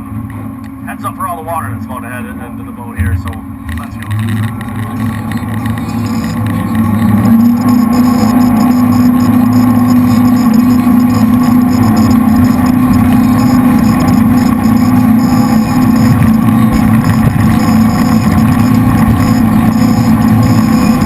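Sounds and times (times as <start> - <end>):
boat engines droning: 0.0 - 21.0.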